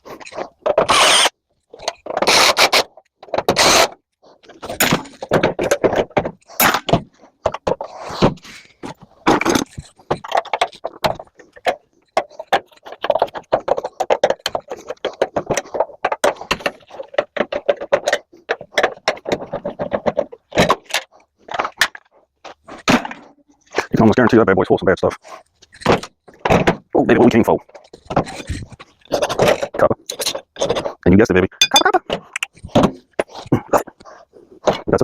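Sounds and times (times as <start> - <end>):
metal parts clanking and rattling: 0.0 - 23.9, 25.1 - 31.0, 31.6 - 33.8.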